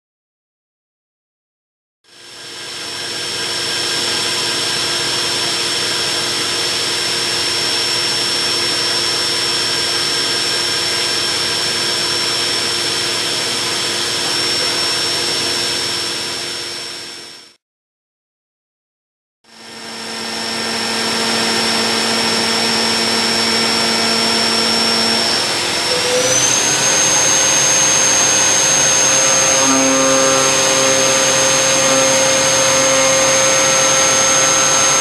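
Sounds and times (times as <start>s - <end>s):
milling machine high whine: 2.1s - 17.5s, 19.5s - 35.0s.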